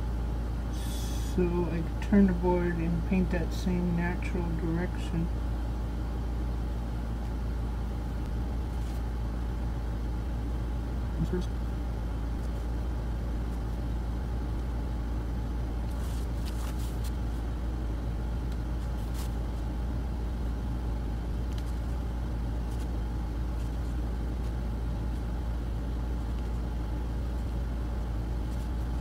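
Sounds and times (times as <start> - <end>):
low background rumble: 0.0 - 29.0.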